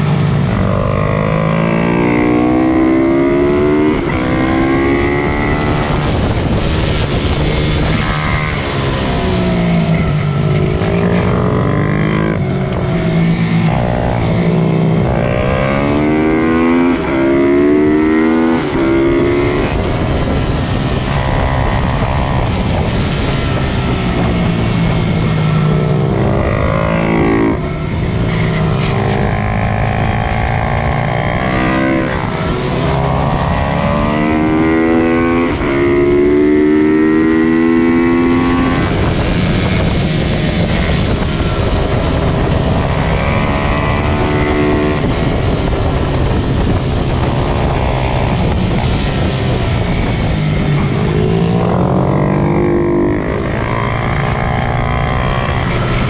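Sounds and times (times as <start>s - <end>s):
small motorbike engines revving: 0.0s - 56.0s.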